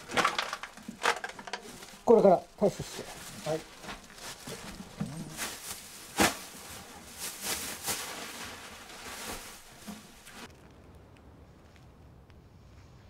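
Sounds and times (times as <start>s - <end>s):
rubbish rustling and knocking: 0.0s - 10.6s.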